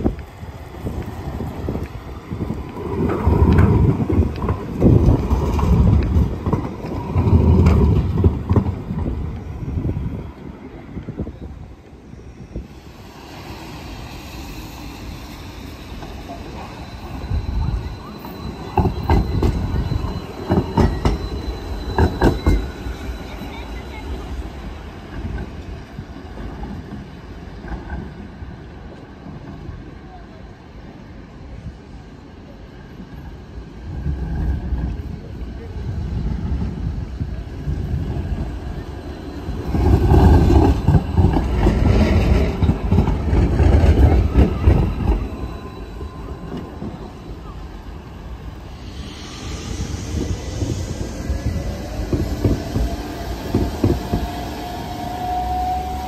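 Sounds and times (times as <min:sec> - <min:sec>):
tram wheels clattering over rails: 0:00.0 - 0:12.0, 0:12.7 - 0:30.0, 0:33.1 - 0:56.0.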